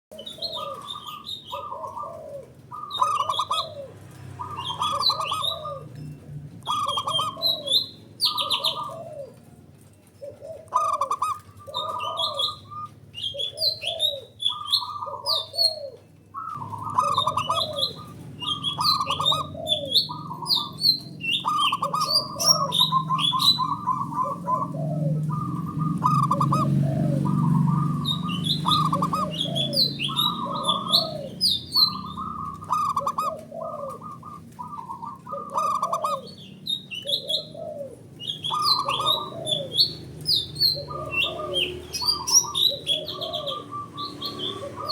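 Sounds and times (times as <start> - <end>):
bird chirps: 0.1 - 9.2, 10.0 - 44.9
doves cooing: 0.1 - 44.9.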